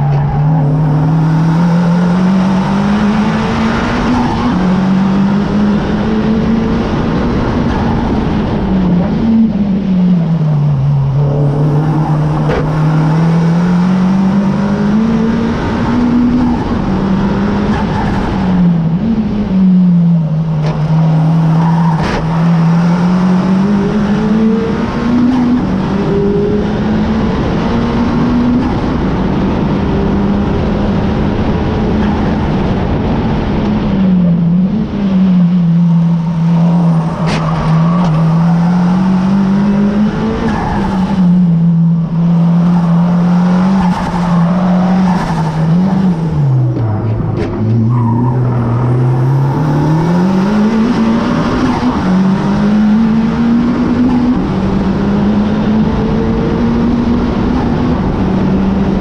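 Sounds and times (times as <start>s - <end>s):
car engine at full throttle: 0.0s - 59.0s.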